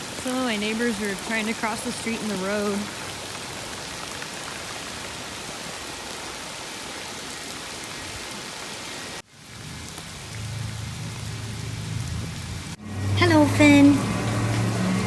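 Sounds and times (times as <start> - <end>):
rain falling hiss: 0.0 - 15.0.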